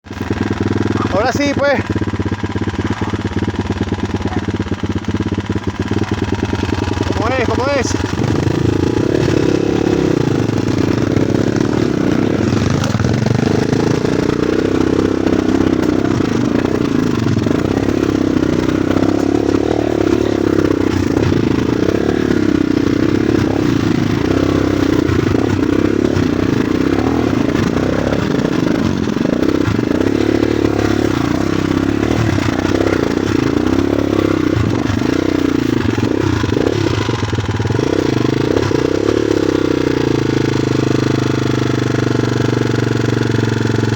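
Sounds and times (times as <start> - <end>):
vehicle engine running: 0.0 - 43.9
rattling and scraping: 1.8 - 40.2.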